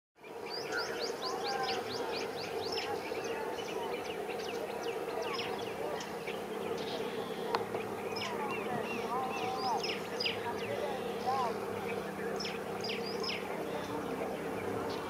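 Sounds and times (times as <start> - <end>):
small birds chirping: 0.2 - 15.0
steady low hum: 0.2 - 15.0.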